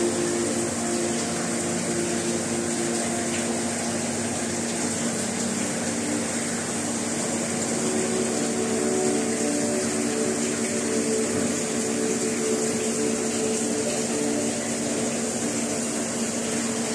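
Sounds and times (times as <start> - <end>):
aquarium pumps humming: 0.0 - 16.9.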